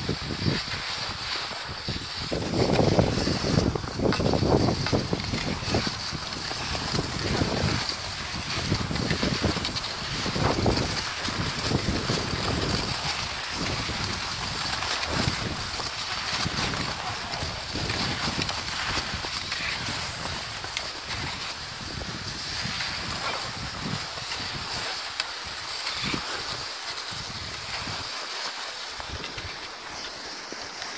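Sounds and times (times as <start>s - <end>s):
wind buffeting microphone: 0.0s - 24.8s.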